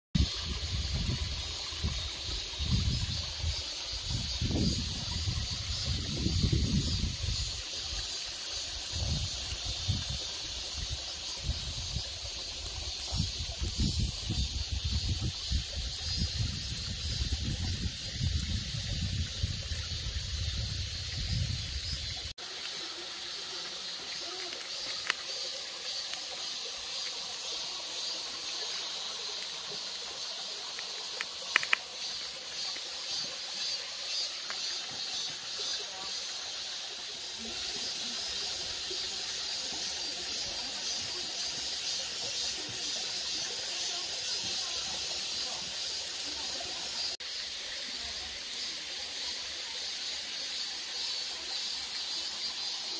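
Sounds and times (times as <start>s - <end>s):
cicadas droning: 0.2s - 52.9s
mountain stream flowing: 0.2s - 52.9s.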